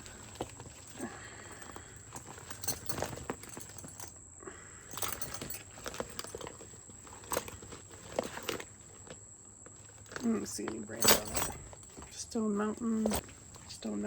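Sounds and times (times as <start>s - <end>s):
buckles and clasps clicking: 0.0s - 4.2s, 4.8s - 13.8s
handbags rustling: 0.0s - 14.0s.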